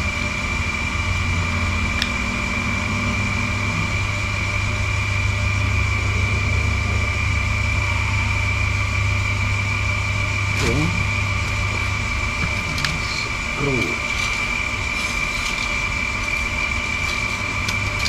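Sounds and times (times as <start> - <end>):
machine hum with high whine: 0.0 - 18.0.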